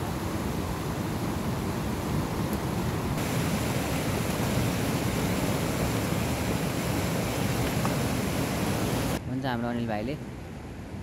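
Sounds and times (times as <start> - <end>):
river rushing over stones: 0.0 - 9.2.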